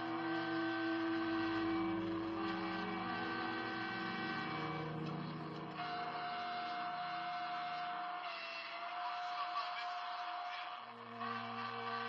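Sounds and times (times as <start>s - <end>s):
electric train whining and rushing: 0.0s - 12.0s.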